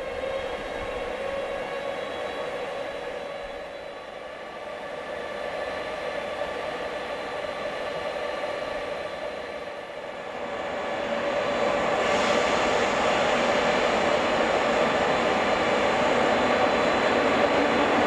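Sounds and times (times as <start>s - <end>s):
electric locomotive whirring hum: 0.0s - 18.0s.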